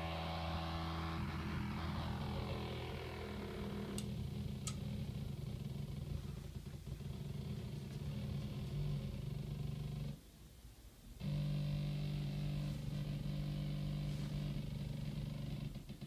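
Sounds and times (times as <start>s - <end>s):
distorted electric bass drone: 0.0s - 10.2s, 11.2s - 16.0s.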